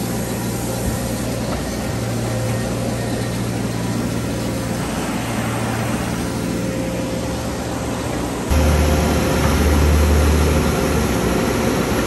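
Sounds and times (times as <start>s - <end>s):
diesel machinery drone: 0.0s - 12.0s.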